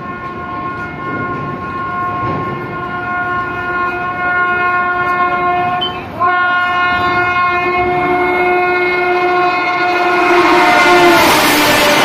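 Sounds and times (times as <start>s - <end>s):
locomotive horn blast: 0.0s - 12.0s
train rushing past: 0.0s - 12.0s.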